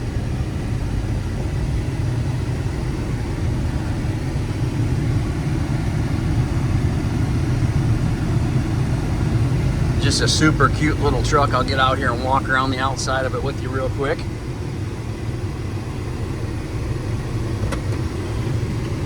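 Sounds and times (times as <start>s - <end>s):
pickup engine rumbling from cab: 0.0s - 19.0s.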